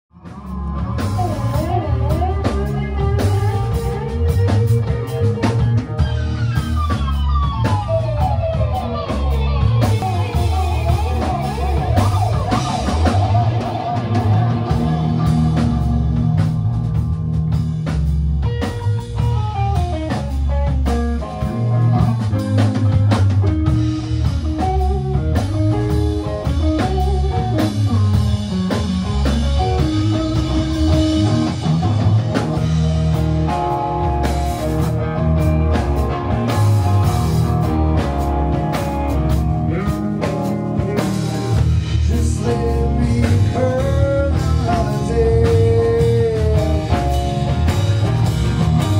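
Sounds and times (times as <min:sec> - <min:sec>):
driving drum kit: 0:00.1 - 0:48.9
electric guitar: 0:00.1 - 0:48.9.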